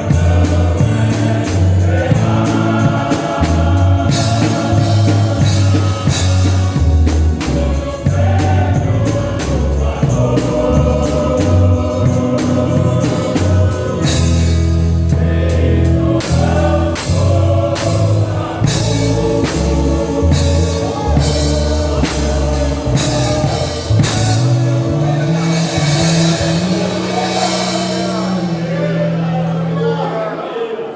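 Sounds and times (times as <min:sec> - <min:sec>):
steady drum beat: 0:00.0 - 0:29.2
sustained bass notes: 0:00.0 - 0:30.5
band playing: 0:00.0 - 0:30.9
group singing gospel song: 0:00.0 - 0:30.9.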